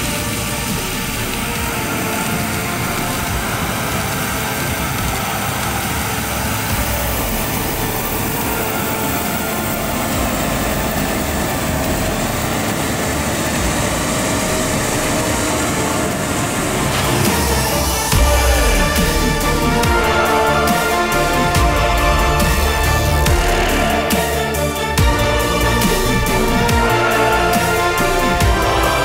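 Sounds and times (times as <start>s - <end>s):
combine harvester engine droning: 0.0s - 29.0s.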